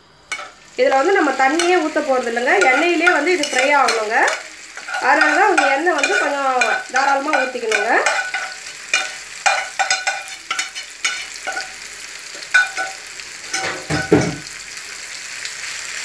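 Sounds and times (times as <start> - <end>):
frying hiss: 0.0 - 16.0
metal pan scraping and clinking: 0.3 - 11.8, 12.4 - 14.4.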